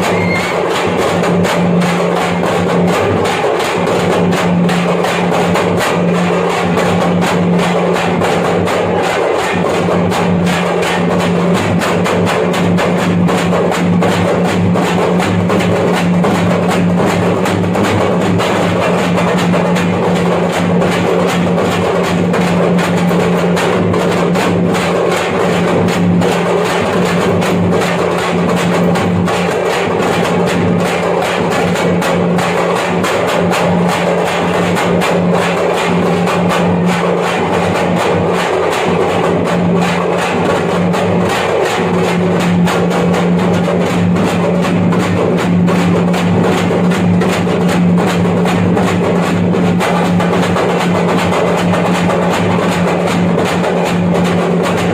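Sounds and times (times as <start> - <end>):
frame drums played fast: 0.0 - 54.9.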